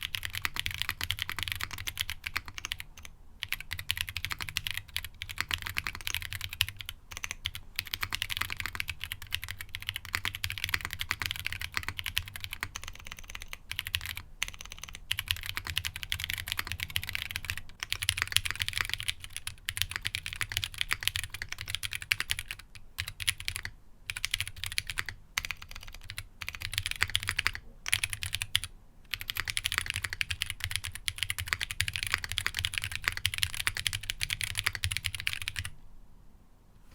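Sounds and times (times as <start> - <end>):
mechanical keyboard typing: 0.0 - 35.7.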